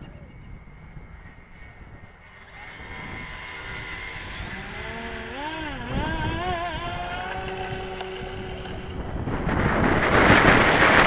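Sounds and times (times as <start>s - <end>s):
model plane motor whine: 0.0s - 11.0s
wind rumbling on microphone: 0.0s - 11.0s.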